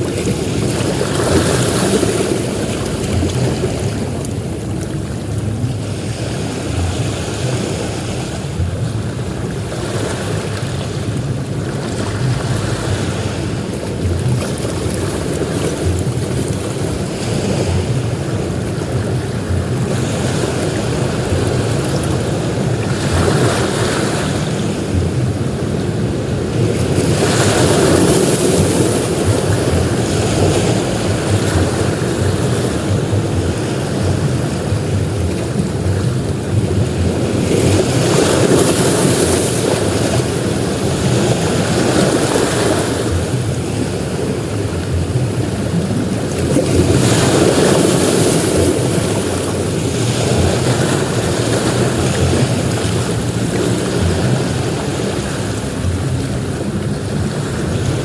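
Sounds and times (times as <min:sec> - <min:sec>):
waves breaking on beach: 0:00.0 - 0:58.0
wind on microphone: 0:00.0 - 0:58.0.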